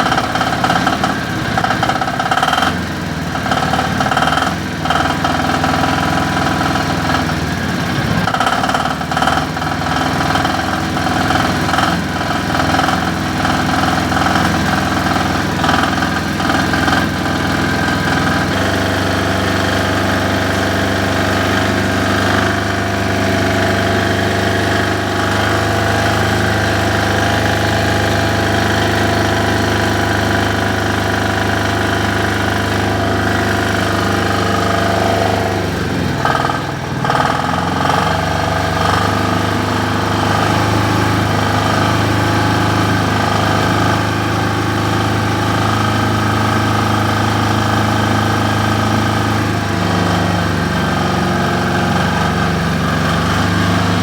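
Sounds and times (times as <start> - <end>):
diesel generator engine running: 0.0 - 54.0.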